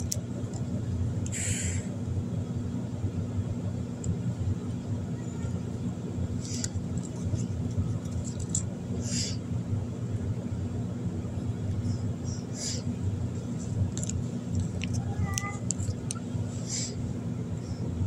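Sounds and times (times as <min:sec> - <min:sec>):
low rumbling hum: 0:00.0 - 0:18.0.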